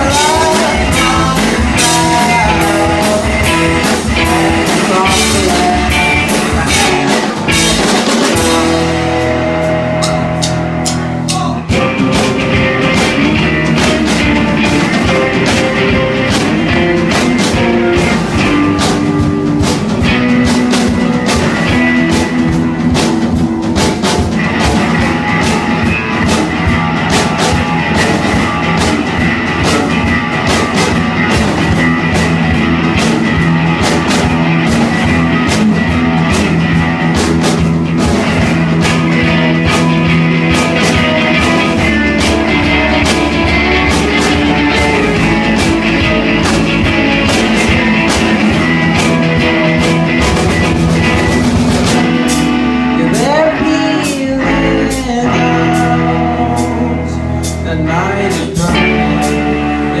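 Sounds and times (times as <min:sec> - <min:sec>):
live rock band playing: 0:00.0 - 1:00.0.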